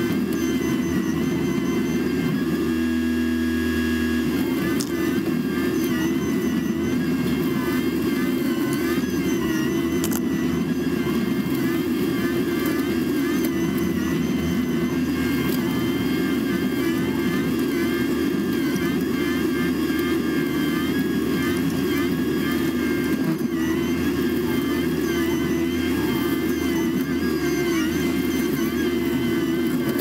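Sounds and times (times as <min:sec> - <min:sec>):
wavering high whine: 0:00.0 - 0:30.0.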